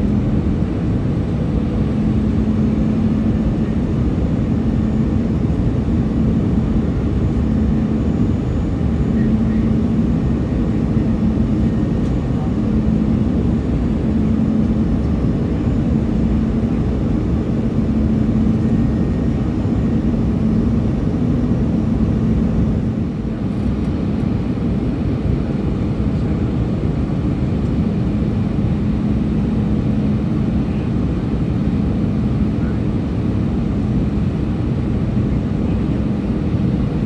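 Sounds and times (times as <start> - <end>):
jet engines rumbling: 0.0 - 37.0
steady low drone: 0.0 - 37.0.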